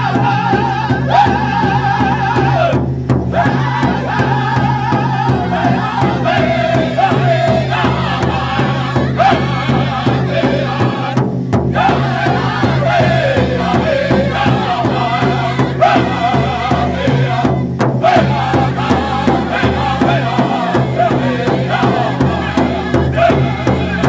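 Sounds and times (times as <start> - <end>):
group singing high chant: 0.0 - 24.0
steady drumbeat: 0.0 - 24.0.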